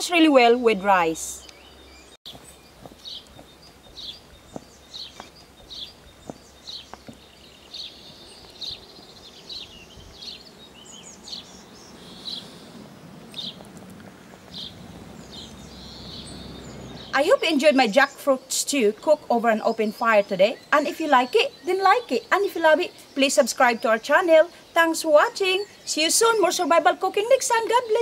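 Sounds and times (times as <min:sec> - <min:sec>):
outdoor background noise: 0:00.0 - 0:28.0
songbird chirping: 0:00.0 - 0:28.0.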